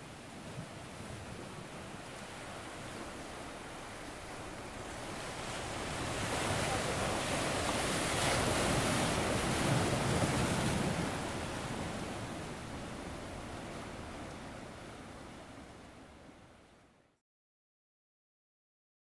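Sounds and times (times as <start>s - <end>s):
sea waves washing: 0.0s - 16.8s.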